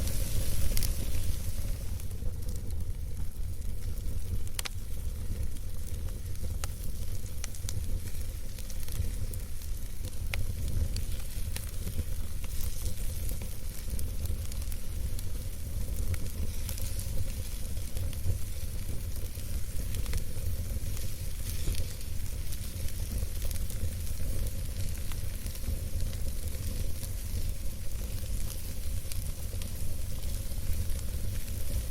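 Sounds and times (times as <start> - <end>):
campfire rumble and hiss: 0.0 - 31.9
fire crackles and pops: 0.0 - 31.9.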